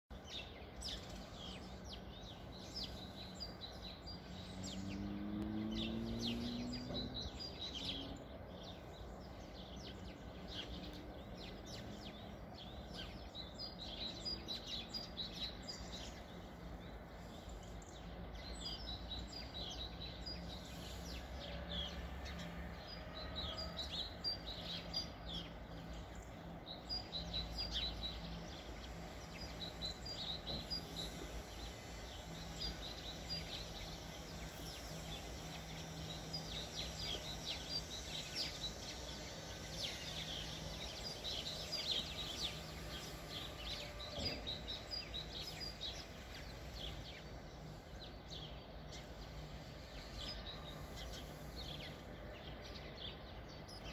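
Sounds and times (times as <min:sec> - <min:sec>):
small birds chirping: 0:00.1 - 0:53.9.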